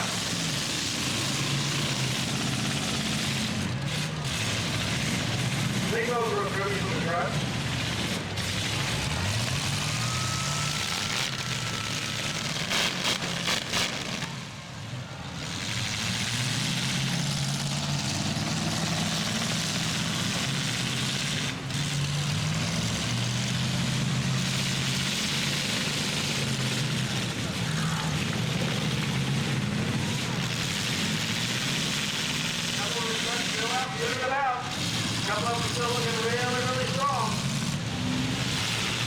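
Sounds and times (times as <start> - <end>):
truck engines revving: 0.0 - 39.0.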